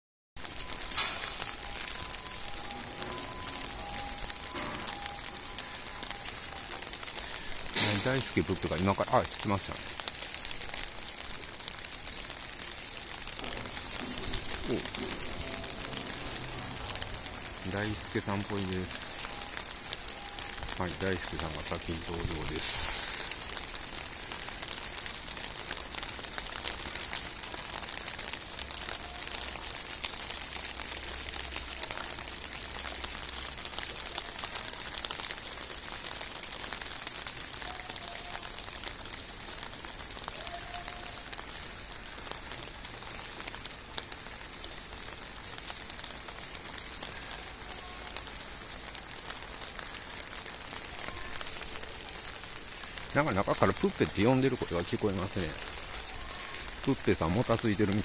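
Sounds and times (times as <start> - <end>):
rain hissing: 0.4 - 58.0.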